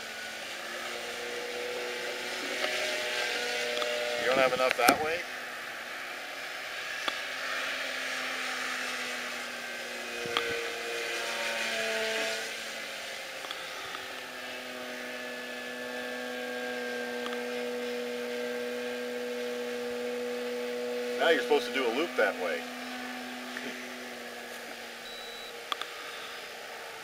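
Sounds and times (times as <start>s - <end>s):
electric motor and propeller whine: 0.0s - 27.0s.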